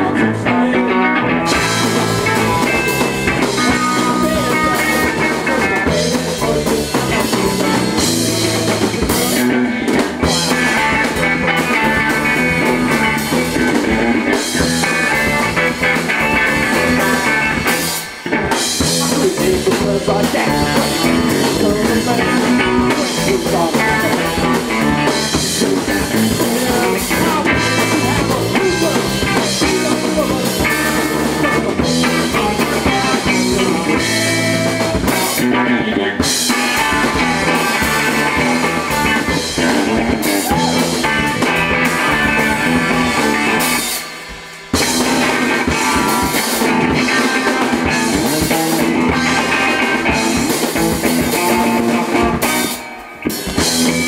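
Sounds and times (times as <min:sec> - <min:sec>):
drum kit: 0:00.0 - 0:54.0
electric guitar: 0:00.0 - 0:54.0
punk rock band playing: 0:00.0 - 0:54.0.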